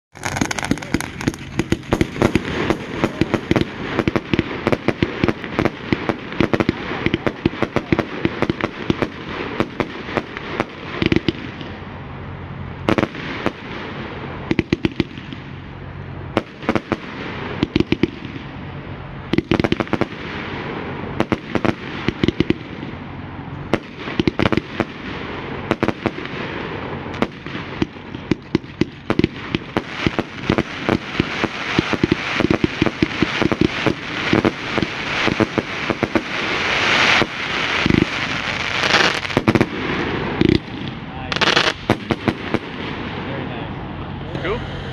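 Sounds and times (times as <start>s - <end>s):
firework shots and bursts: 0.1s - 12.0s, 12.8s - 44.9s
firework crackle: 0.1s - 44.9s.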